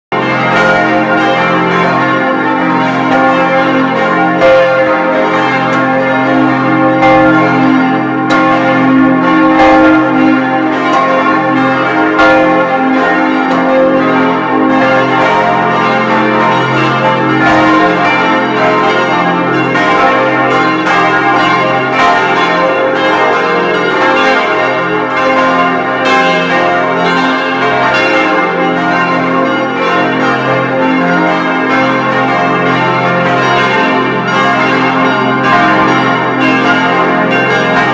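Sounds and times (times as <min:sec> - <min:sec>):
church bells ringing: 0:00.1 - 0:37.9.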